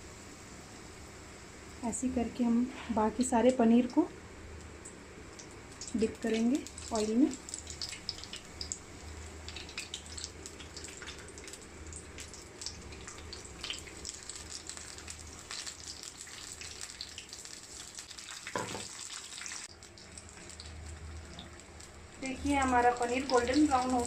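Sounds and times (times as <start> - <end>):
food deep-frying in hot oil: 0.0 - 24.0.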